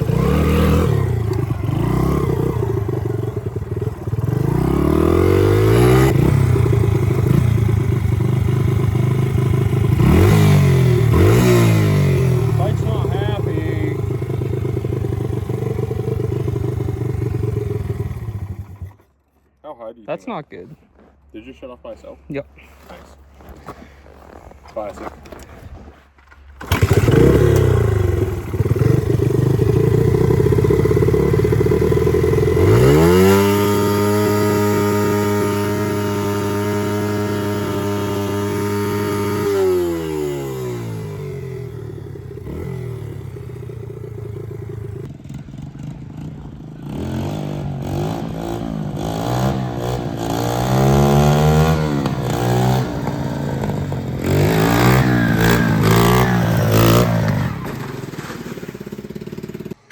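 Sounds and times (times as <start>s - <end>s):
small motorbike engine idling and revving: 0.0s - 19.2s, 26.4s - 59.9s.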